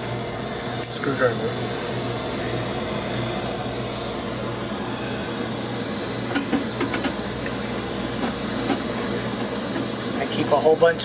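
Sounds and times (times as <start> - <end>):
dryers humming and whirring: 0.0 - 11.0.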